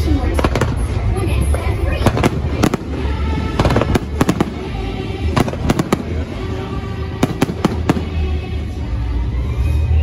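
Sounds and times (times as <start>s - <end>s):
fireworks bursting and crackling: 0.0s - 8.6s
show music: 0.0s - 10.0s.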